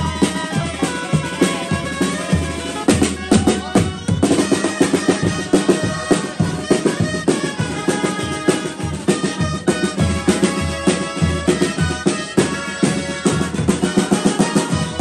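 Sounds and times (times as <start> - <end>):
drums beating: 0.0 - 15.0.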